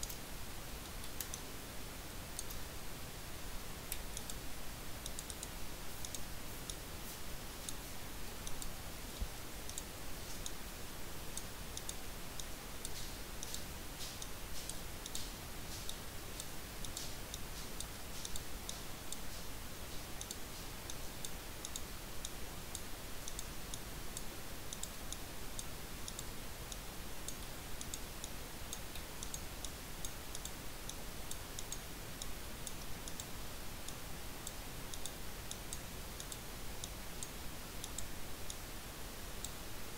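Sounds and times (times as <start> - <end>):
computer mouse clicking: 0.0 - 1.5, 2.4 - 2.7, 3.9 - 4.4, 5.0 - 10.6, 11.3 - 38.6
background hiss: 0.0 - 39.9.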